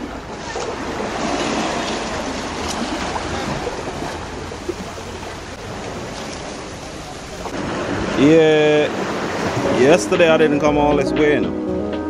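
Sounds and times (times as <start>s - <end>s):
small waves washing onto sand: 0.0s - 10.5s.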